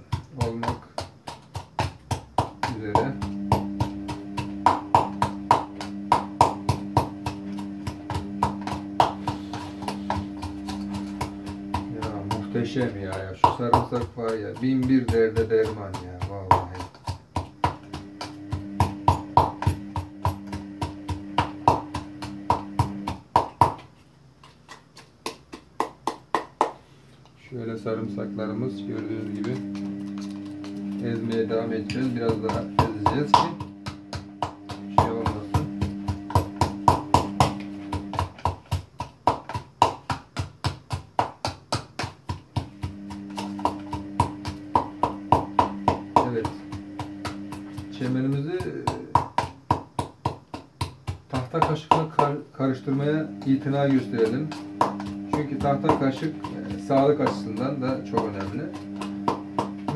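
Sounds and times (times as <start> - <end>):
pestle pounding in a mortar: 0.0 - 26.8, 27.6 - 59.9.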